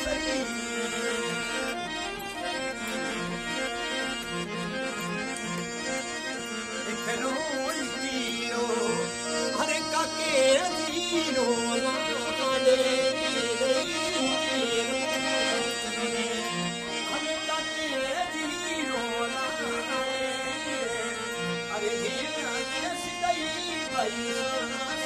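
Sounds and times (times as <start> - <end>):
ornamented melody line: 0.0 - 25.0
reed keyboard instrument: 0.0 - 25.0.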